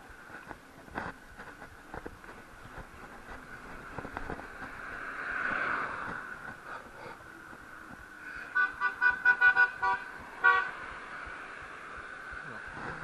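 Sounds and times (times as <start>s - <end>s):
bike hum and rushing noise: 0.0s - 13.0s.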